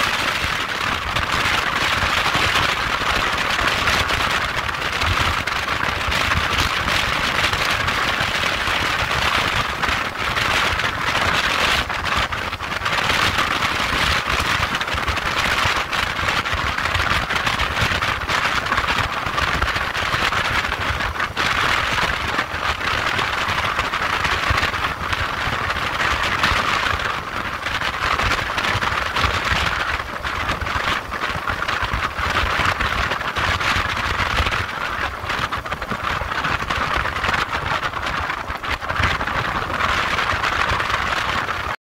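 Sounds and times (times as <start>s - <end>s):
wind and road noise: 0.0s - 41.8s.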